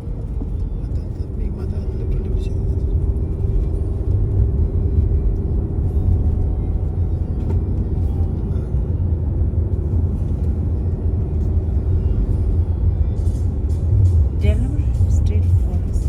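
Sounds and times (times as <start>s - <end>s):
road rumble: 0.0s - 16.0s.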